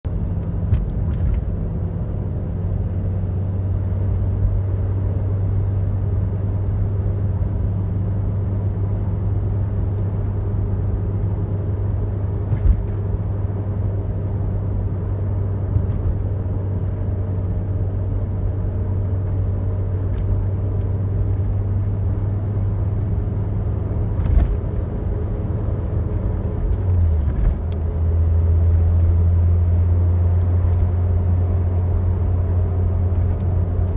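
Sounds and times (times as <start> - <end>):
car engine and road drone: 0.0 - 33.9.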